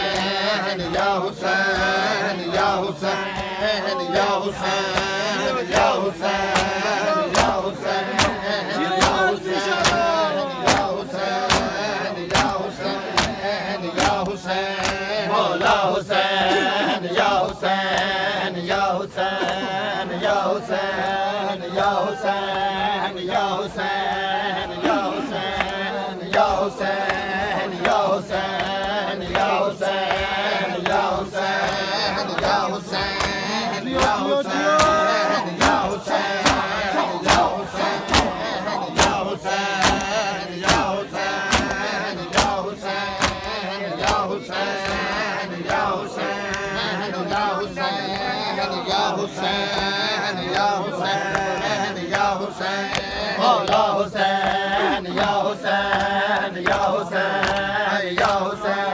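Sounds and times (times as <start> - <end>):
hand slaps on bare chests: 0.0 - 19.7, 23.4 - 48.3, 50.5 - 58.6
men chanting a lament: 0.0 - 58.9.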